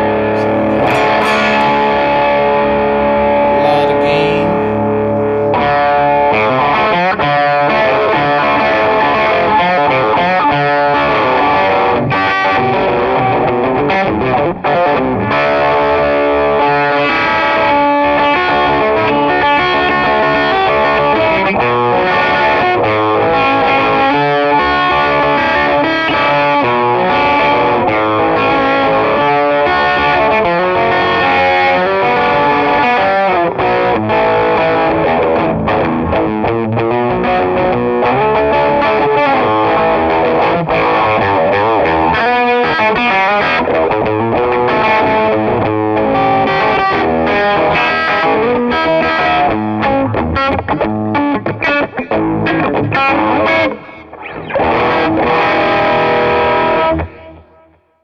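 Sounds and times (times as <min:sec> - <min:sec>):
distorted electric guitar: 0:00.0 - 0:57.8.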